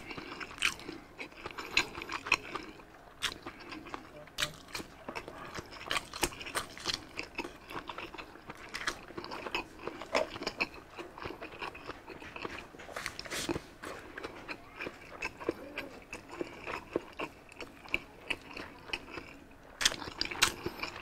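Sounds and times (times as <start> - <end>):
person chewing: 0.0 - 21.0.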